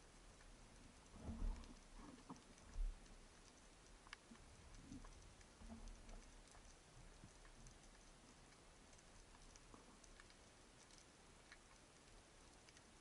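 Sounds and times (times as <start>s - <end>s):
faint underwater clicks and crackles: 0.0s - 13.0s
low hiss: 0.0s - 13.0s.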